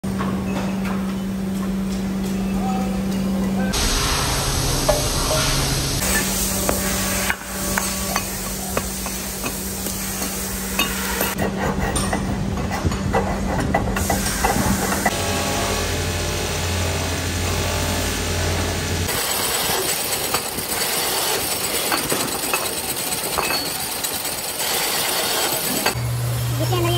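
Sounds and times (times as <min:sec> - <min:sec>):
polishing wheel machine hum: 0:03.7 - 0:26.9.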